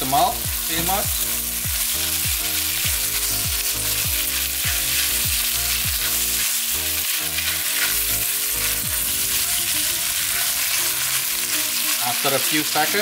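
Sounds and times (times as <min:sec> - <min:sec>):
background music with low beat: 0:00.0 - 0:13.0
meat sizzling in a wok: 0:00.0 - 0:13.0
spatula stirring in a wok: 0:01.2 - 0:13.0.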